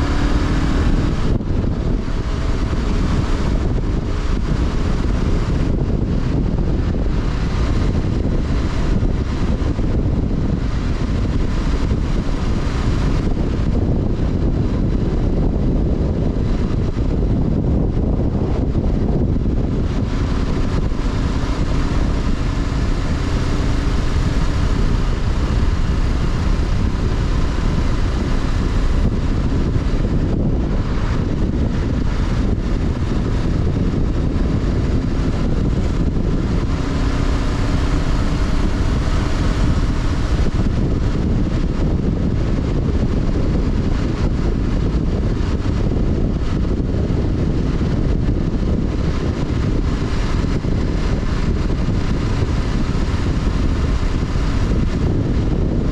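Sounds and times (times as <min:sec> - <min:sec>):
motorcycle engine running: 0:00.0 - 0:55.9
wind and road rush: 0:00.0 - 0:55.9.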